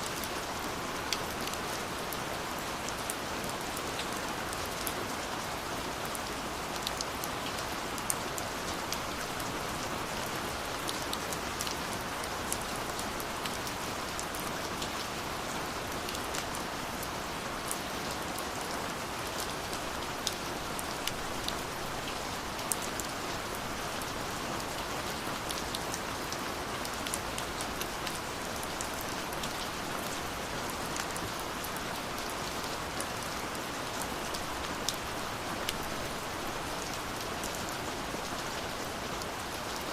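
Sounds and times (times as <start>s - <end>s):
steady rainfall: 0.0s - 39.9s
raindrops ticking on a surface: 0.1s - 39.9s.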